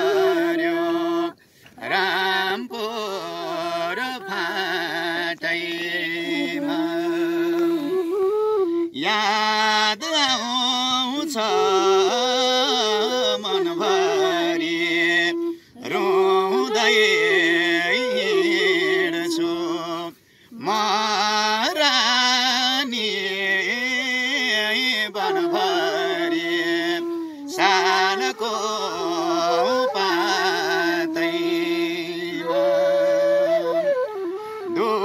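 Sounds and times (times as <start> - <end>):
man singing folk song: 0.0 - 8.0, 9.0 - 33.2
bamboo flute: 0.0 - 35.0.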